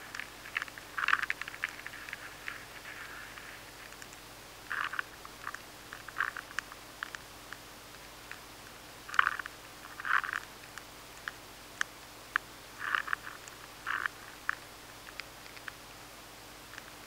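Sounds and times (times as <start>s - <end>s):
faint steady hum: 0.0s - 17.0s
insect chewing clicks: 0.1s - 7.6s, 9.1s - 15.8s.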